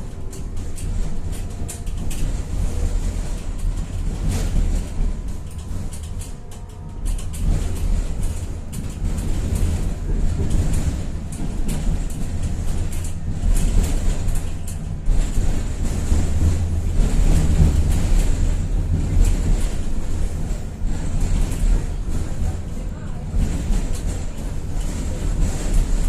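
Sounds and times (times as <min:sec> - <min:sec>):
tram wheels rumbling: 0:00.0 - 0:26.0.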